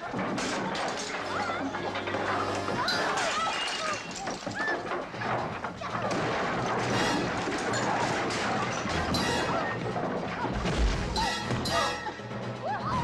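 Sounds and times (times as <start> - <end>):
crashes smashes and blows: 0.0 - 11.7
background music: 0.0 - 13.0.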